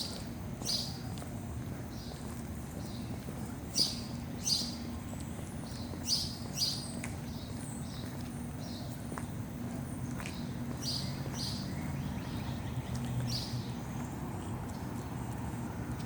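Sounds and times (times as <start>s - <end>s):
birds chirping: 1.8s - 15.6s.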